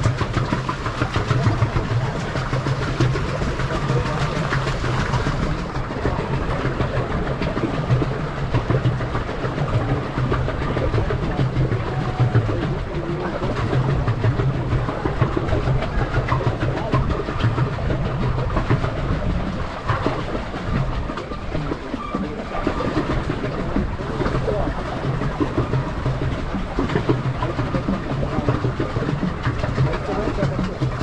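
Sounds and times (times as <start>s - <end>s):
water churning and splashing: 0.0s - 31.0s.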